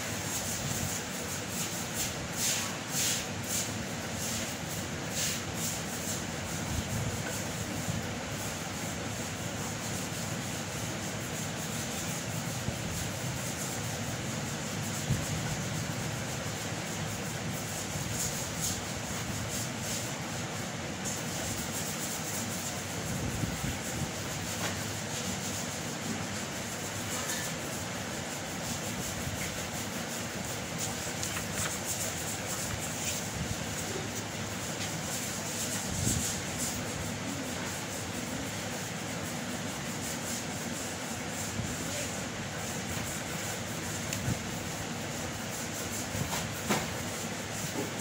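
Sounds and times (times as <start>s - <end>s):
steady background noise: 0.0s - 48.0s.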